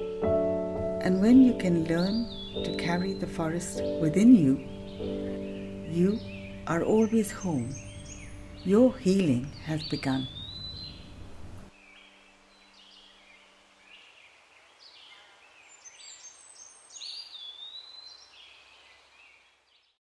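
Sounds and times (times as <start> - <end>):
small birds chirping: 1.0 - 20.0.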